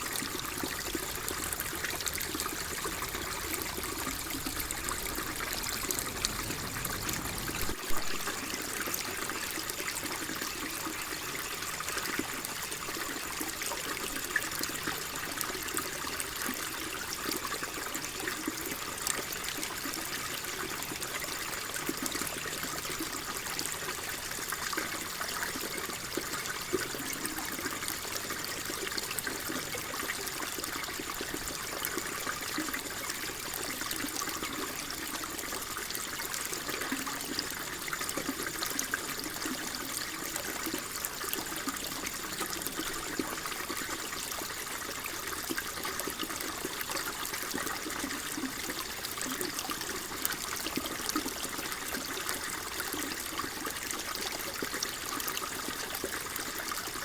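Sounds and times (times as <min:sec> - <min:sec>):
shallow water trickling: 0:00.0 - 0:57.0.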